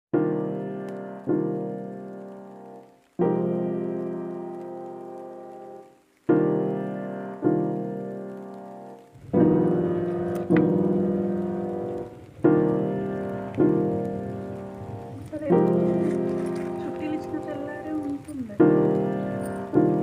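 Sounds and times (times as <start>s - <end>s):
slow piano chords: 0.1s - 20.0s.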